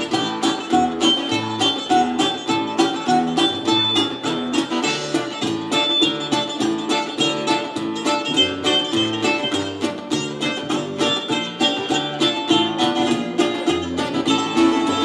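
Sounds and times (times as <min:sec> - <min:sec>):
acoustic guitar: 0:00.0 - 0:15.0
bouzouki: 0:00.0 - 0:15.0
drums: 0:00.0 - 0:15.0
electric upright bass: 0:00.0 - 0:15.0.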